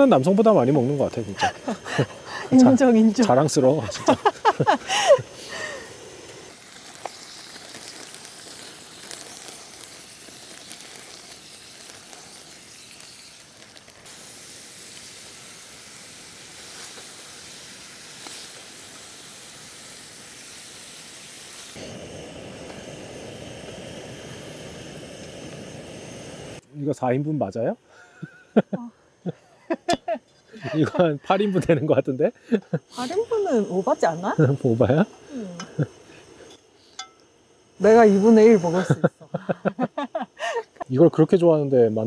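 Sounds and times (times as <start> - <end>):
gas stove burner hissing: 0.0 - 42.0.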